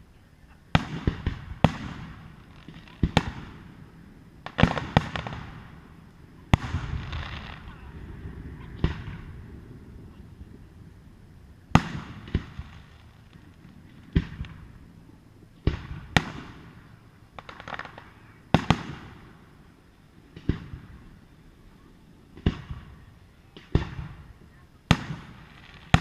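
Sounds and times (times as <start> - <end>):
fireworks booming: 0.0 - 26.0
fireworks crackling: 0.0 - 26.0.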